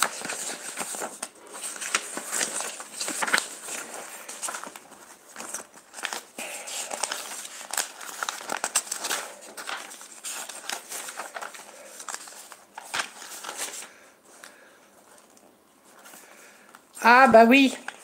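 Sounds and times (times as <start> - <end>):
notebook pages rustling: 0.0 - 16.8, 17.7 - 18.0.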